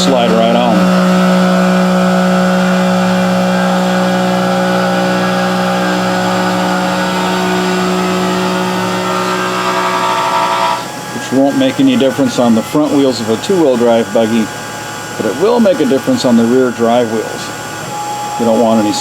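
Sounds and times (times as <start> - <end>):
milling machine hum and whine: 0.0 - 19.0.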